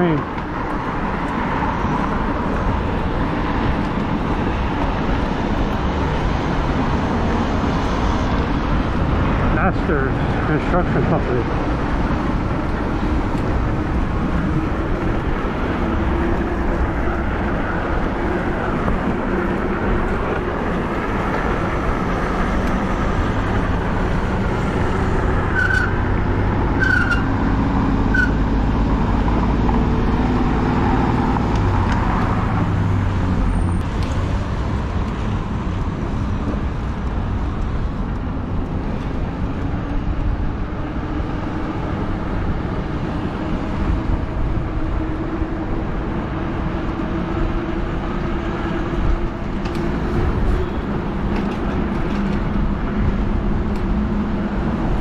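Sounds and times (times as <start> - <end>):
road traffic passing: 0.0 - 55.0
wind rumble on microphone: 0.0 - 55.0.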